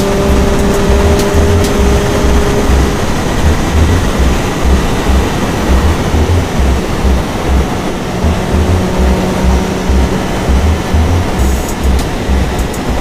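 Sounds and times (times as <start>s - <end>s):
motorcycle engine low pulsing: 0.0s - 13.0s
wind rushing over microphone: 0.0s - 13.0s.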